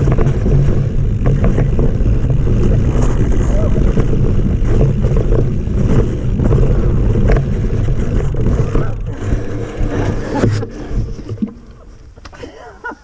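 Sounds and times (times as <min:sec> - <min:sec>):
wind buffeting microphone: 0:00.0 - 0:12.2
bike tyres rumbling on dirt trail: 0:00.0 - 0:13.0.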